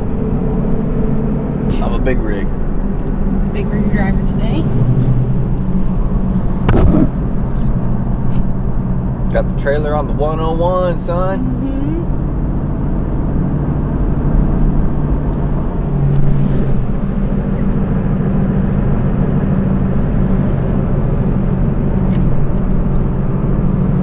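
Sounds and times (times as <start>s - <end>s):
truck engine drone: 0.0s - 24.0s.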